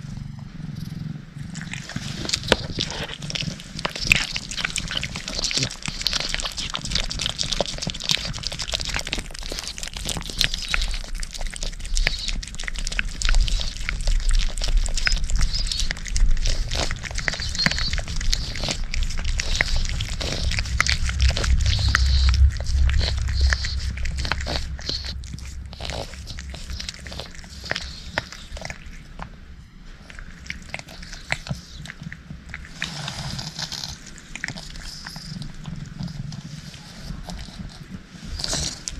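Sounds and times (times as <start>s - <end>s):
low rumble: 0.0s - 38.9s
cat licking and chewing: 1.0s - 38.9s.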